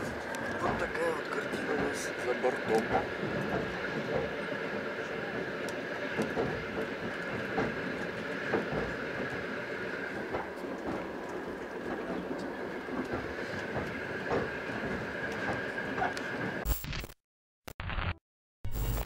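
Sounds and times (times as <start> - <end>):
carriage wheels rumbling: 0.0 - 16.6.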